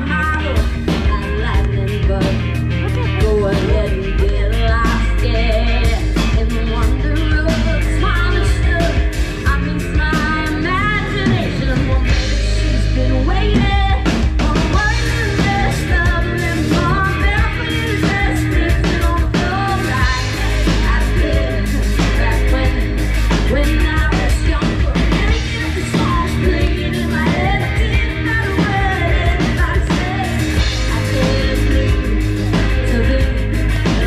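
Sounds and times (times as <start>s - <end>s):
live band playing: 0.0s - 34.0s
woman singing lead: 0.0s - 34.0s.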